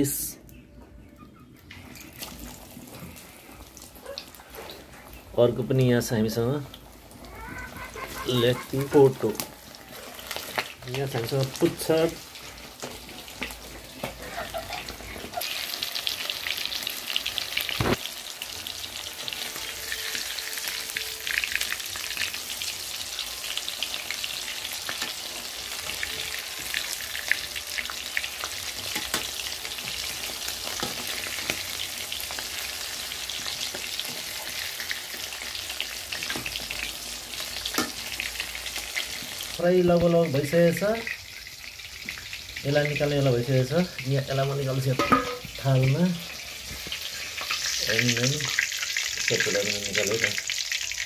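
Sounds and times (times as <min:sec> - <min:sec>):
chicken deep-frying in oil: 0:01.1 - 0:51.0.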